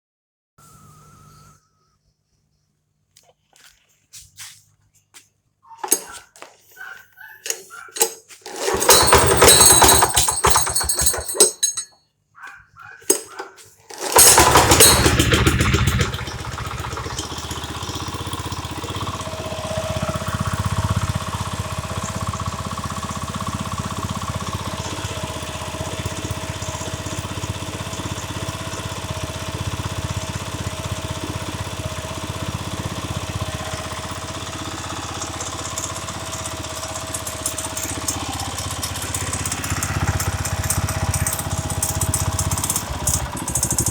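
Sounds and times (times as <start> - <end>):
petrol engine starting and idling: 5.7 - 43.9.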